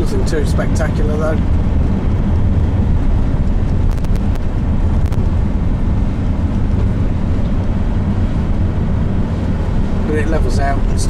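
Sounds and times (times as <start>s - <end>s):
car road rumble: 0.0s - 11.0s
wind noise: 0.0s - 11.0s.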